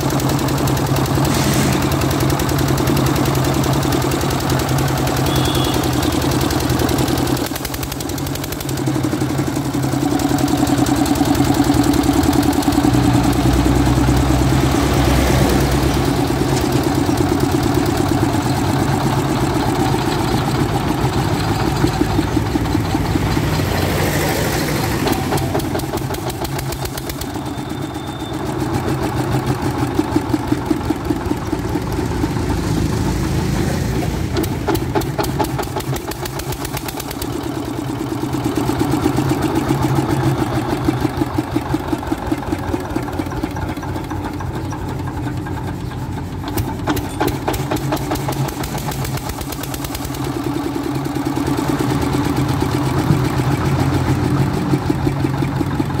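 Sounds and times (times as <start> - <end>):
diesel generator engine running: 0.0 - 56.0.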